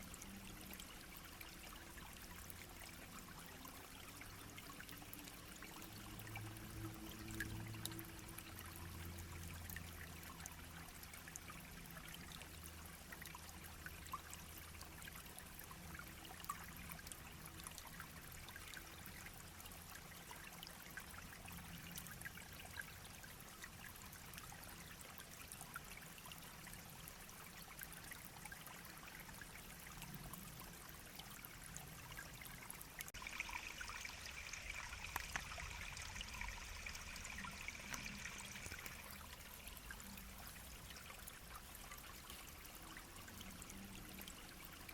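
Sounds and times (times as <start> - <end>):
small stream babbling: 0.0 - 44.9.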